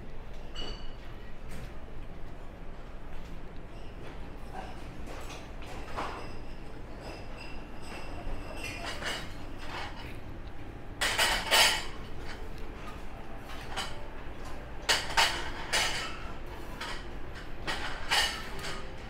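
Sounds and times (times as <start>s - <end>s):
low steady background hum: 0.0s - 19.0s
dishes and cutlery clinking: 0.3s - 1.7s, 3.6s - 19.0s.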